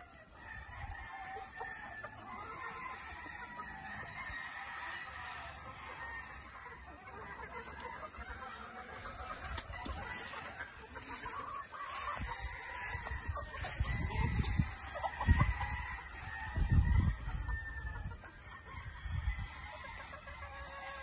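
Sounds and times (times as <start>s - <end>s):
hens clucking: 0.0s - 21.0s
roosters crowing: 0.0s - 21.0s.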